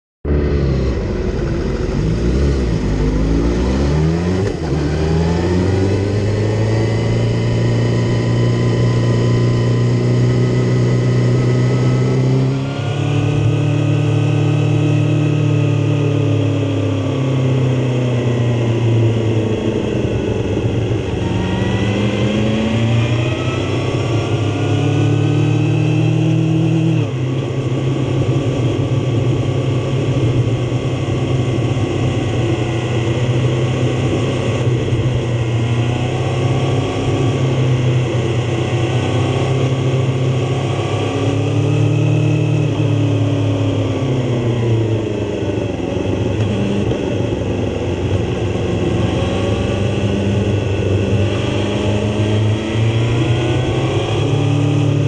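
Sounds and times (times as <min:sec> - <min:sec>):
motorcycle engine accelerating: 0:00.2 - 0:55.0.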